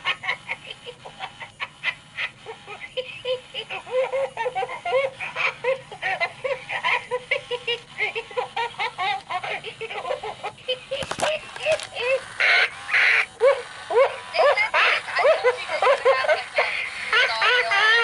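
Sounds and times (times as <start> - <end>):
cartoonish laughing voice from toy: 0.0 - 18.0.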